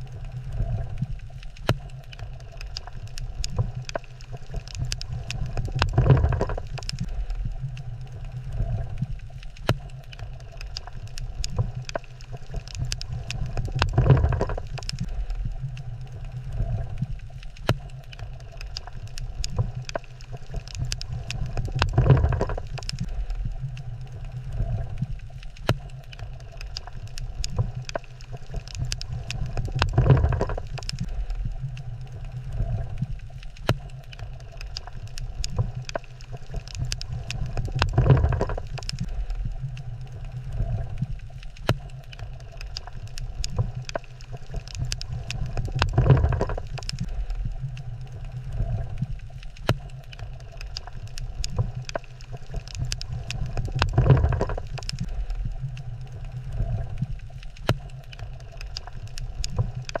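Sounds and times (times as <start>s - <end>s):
low underwater rumble: 0.0s - 60.0s.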